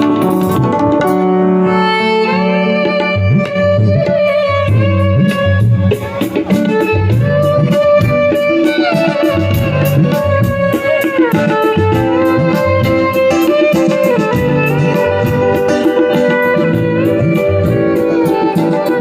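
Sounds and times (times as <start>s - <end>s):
violin melody with sliding notes: 0.0s - 19.0s.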